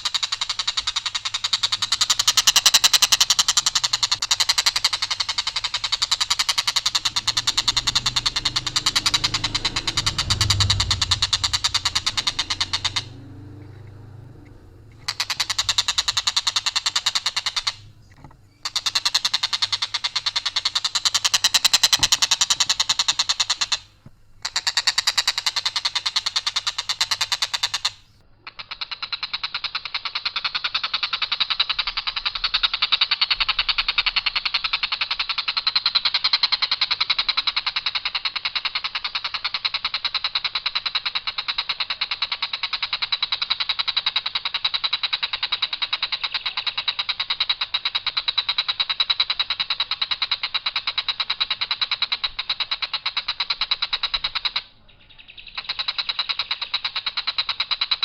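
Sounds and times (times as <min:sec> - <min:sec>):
kingfisher rapid rattling call: 0:00.0 - 0:58.0.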